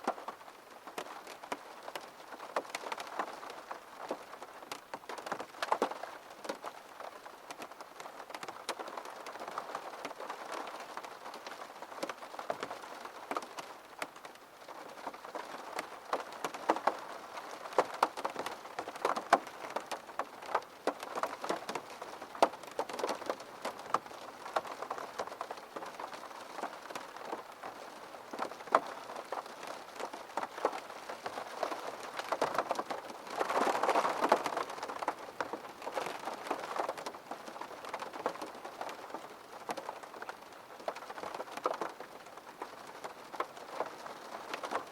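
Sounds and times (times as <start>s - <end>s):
rain against a window: 0.0s - 44.9s.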